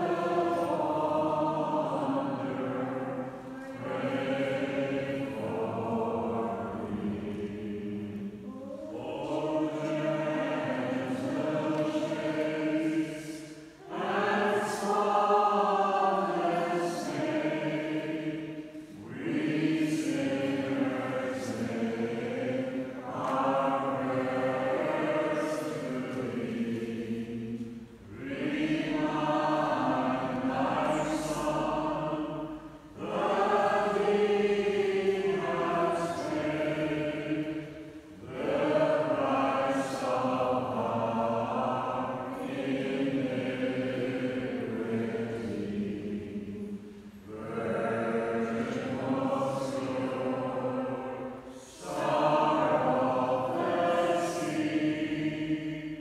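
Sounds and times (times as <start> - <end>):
group singing together: 0.0 - 56.0.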